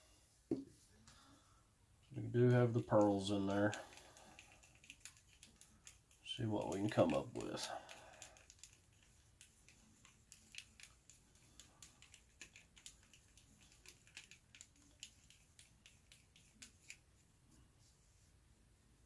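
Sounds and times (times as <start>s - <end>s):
paintbrush stirring paint in cup: 2.5s - 18.0s.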